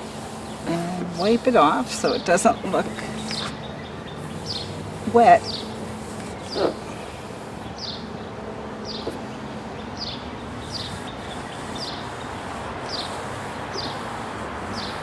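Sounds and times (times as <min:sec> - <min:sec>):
bird chirping: 0:01.9 - 0:14.0.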